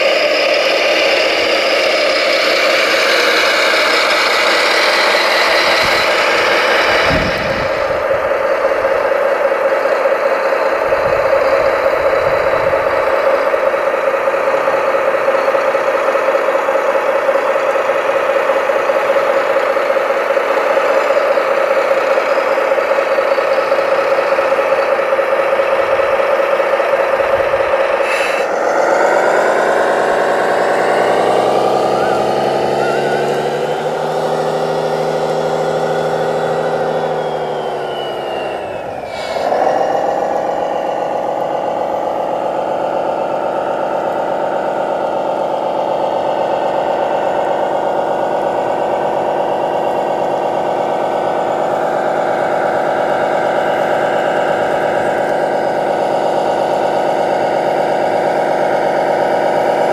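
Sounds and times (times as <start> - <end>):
model machine engine: 0.0 - 59.9.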